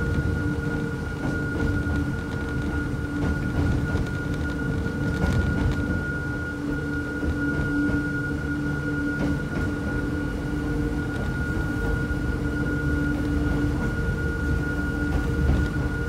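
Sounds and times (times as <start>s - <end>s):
electric train low rumble: 0.0s - 16.0s
high whine: 0.0s - 16.0s.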